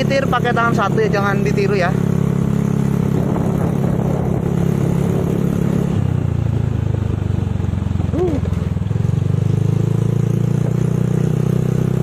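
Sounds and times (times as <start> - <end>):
scooter engine drone: 0.0 - 12.0.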